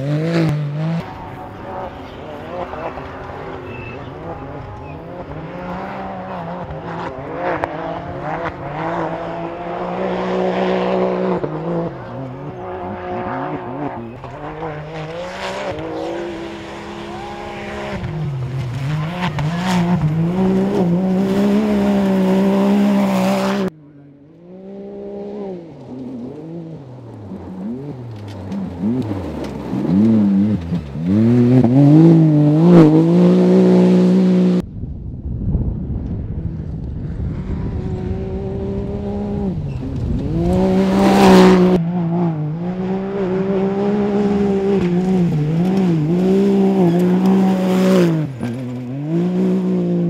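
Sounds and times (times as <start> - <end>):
buggy engine revving: 0.0 - 34.6, 36.3 - 50.0.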